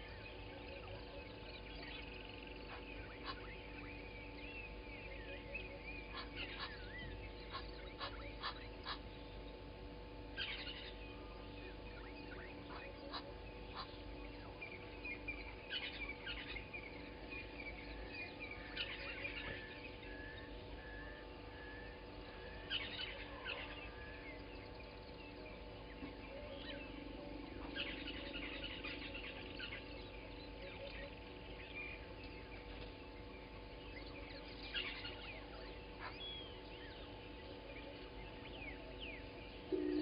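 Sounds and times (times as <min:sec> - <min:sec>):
faint low hum: 0:00.0 - 0:40.0
wild birds chirping: 0:00.0 - 0:40.0.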